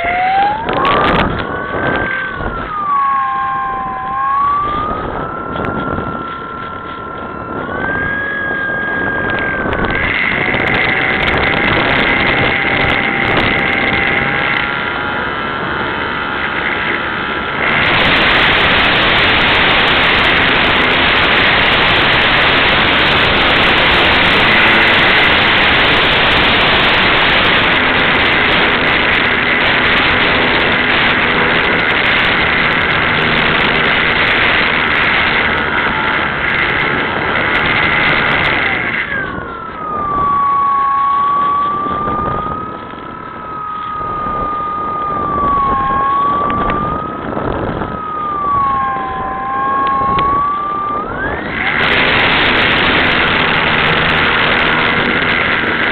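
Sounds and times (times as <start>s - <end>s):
loud steady rushing noise: 0.0s - 55.9s
model plane electric motor whining: 0.0s - 55.9s.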